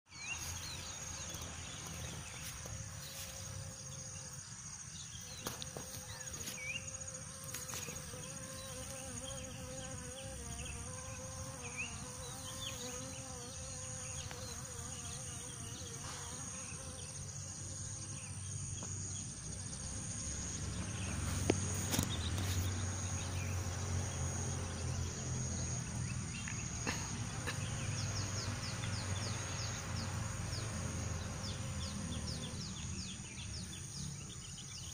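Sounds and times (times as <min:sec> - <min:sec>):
insects chirring: 0:00.1 - 0:34.9.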